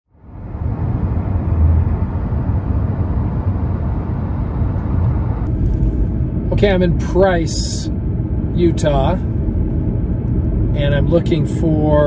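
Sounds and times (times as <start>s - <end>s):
car driving at highway speed: 0.1s - 12.0s.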